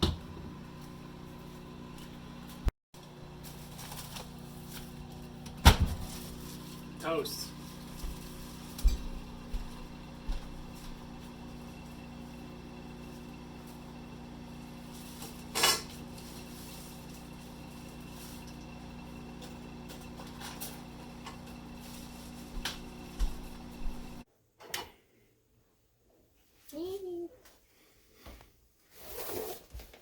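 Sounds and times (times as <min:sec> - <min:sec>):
appliance hum: 0:00.0 - 0:24.3.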